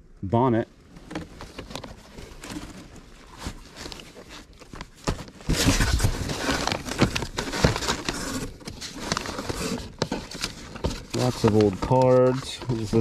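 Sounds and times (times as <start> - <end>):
paper and envelopes rustling: 0.9 - 13.0.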